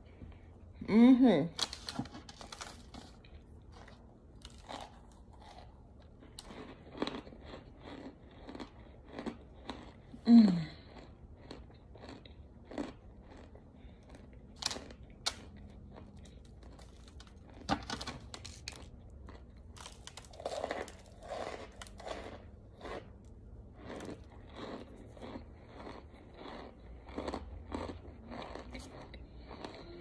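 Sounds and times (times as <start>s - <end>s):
crunchy chewing: 1.8s - 10.2s, 10.9s - 30.0s.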